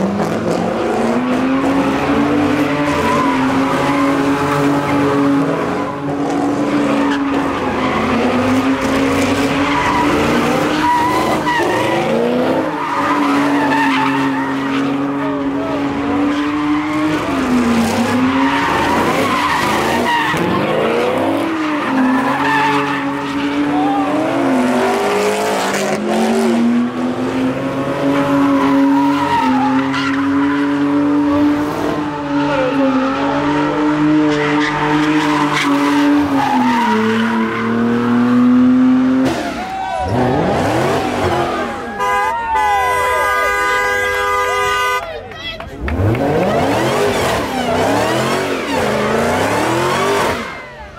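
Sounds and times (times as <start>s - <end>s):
car engine at high revs: 0.0s - 42.2s, 45.7s - 50.9s
tyres screeching on asphalt: 0.0s - 50.9s.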